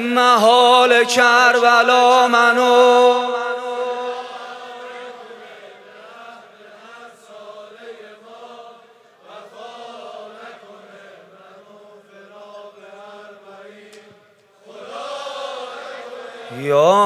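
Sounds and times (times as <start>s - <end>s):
lead singer's voice: 0.0s - 17.0s
crowd chanting in unison: 2.8s - 17.0s.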